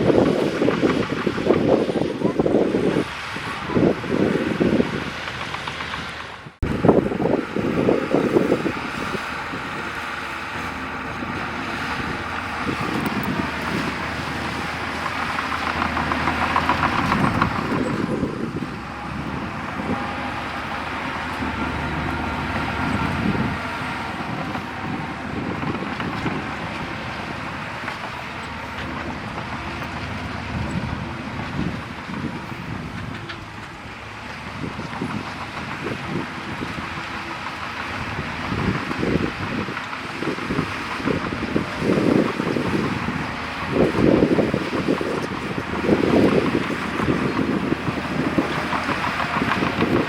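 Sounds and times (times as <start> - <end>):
heavy diesel machinery running: 0.0 - 50.0.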